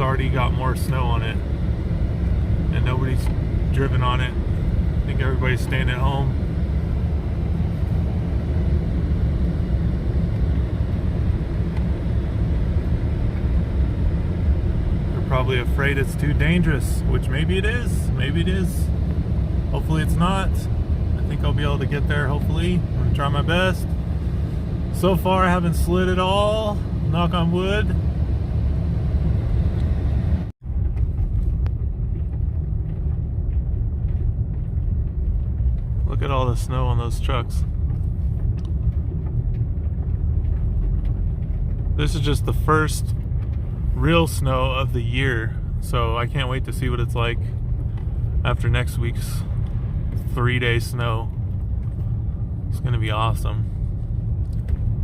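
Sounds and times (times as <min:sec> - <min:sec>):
pickup truck engine rumble: 0:00.0 - 0:55.0
tyres on snowy road: 0:00.0 - 0:55.0.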